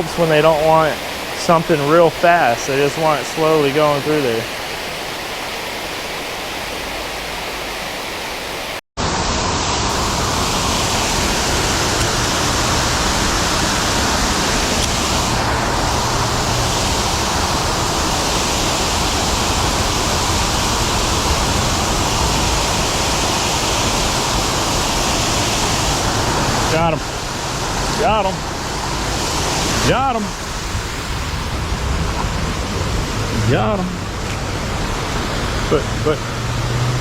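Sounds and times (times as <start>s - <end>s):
water rushing over spillway: 0.0s - 37.0s.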